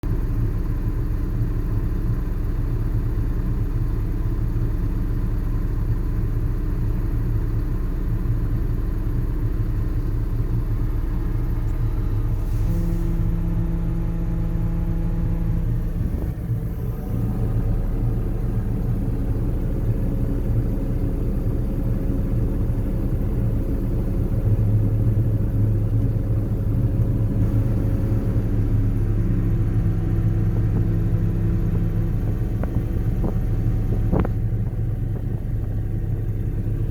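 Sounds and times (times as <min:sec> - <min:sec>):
tractor diesel engine drone: 0:00.0 - 0:36.9.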